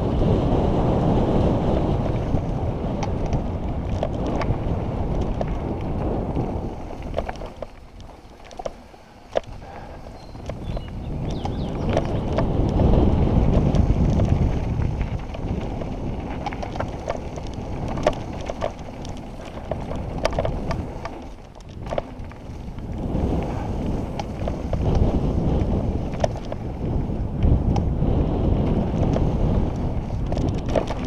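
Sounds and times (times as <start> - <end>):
bike rattling clicks: 0.0 - 31.0
wind buffeting microphone: 0.0 - 31.0
tyres rolling over dirt and stones: 1.8 - 27.9, 28.5 - 31.0.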